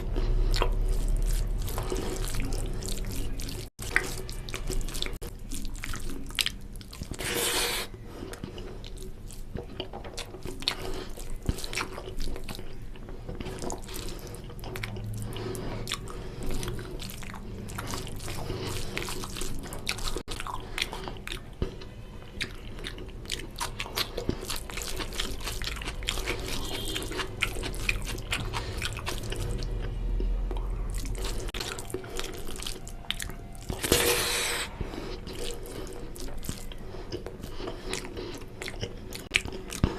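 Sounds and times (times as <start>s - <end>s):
wet chewing and lip-smacking: 0.0s - 39.9s.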